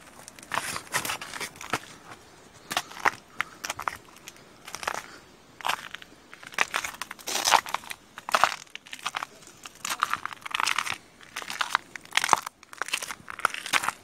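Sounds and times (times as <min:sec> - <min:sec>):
footsteps crunching in snow: 0:00.0 - 0:14.0
twigs and branches crackling: 0:00.0 - 0:14.0.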